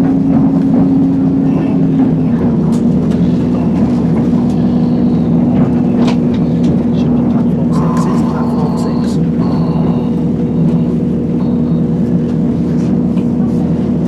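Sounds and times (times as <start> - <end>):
diesel train engine humming: 0.0 - 14.0.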